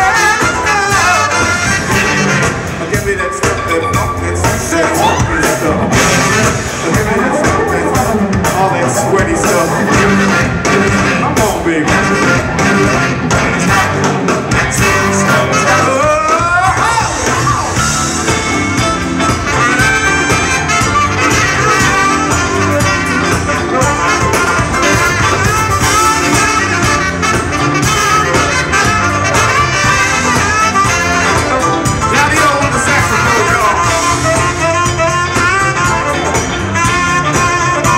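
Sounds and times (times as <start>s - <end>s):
bass: 0.0s - 37.9s
congas: 0.0s - 37.9s
drum kit: 0.0s - 37.9s
electric guitar: 0.0s - 37.9s
horn section: 0.0s - 37.9s
keyboards: 0.0s - 37.9s.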